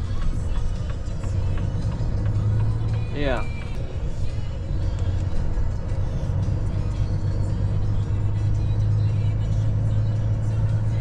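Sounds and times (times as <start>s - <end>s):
diesel truck engine drone: 0.0s - 11.0s
faint background music: 0.0s - 11.0s.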